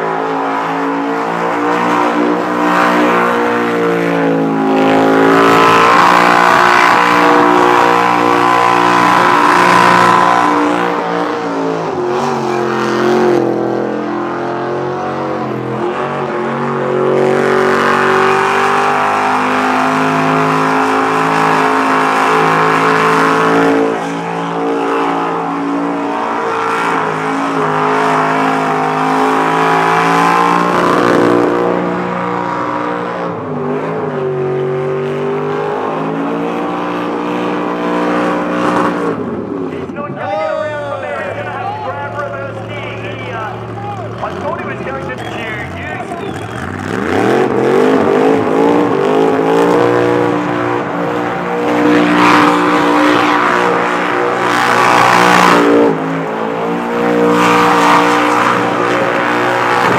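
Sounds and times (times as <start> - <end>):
car engine revving high: 0.0 - 59.9.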